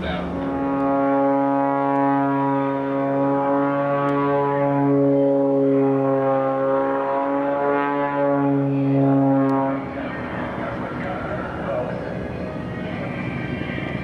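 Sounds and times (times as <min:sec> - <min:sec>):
propeller airplane engine droning: 0:00.0 - 0:14.0.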